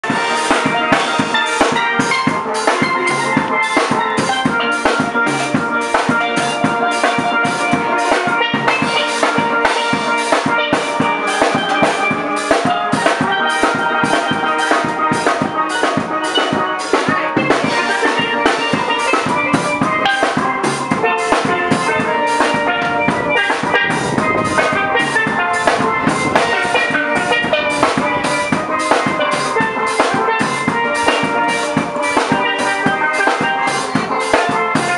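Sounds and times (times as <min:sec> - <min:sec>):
drum kit beat: 0:00.0 - 0:34.9
steelpans playing melody: 0:00.0 - 0:34.9.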